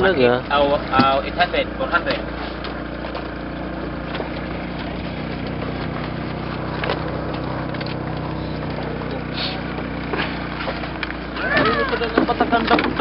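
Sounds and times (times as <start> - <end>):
small boat engine idling: 0.0 - 13.0.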